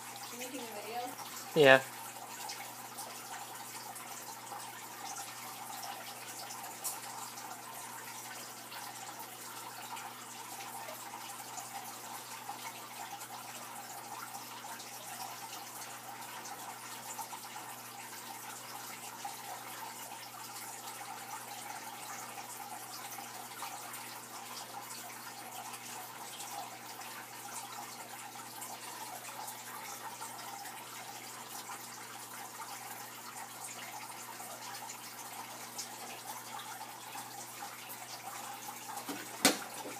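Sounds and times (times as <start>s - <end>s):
water drips: 0.0s - 39.9s
water trickling and splashing: 0.0s - 39.9s.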